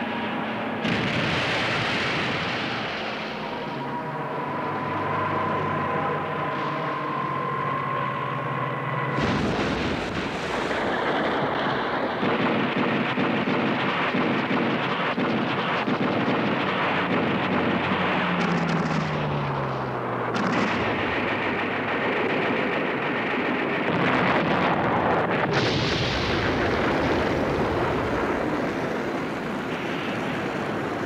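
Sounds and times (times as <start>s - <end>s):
anti-aircraft gunfire: 0.0s - 7.3s, 9.0s - 31.0s
aircraft engine noise: 0.0s - 31.0s.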